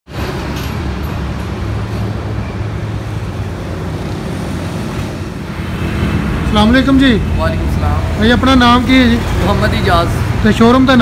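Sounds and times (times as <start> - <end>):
road traffic noise: 0.1 - 11.0.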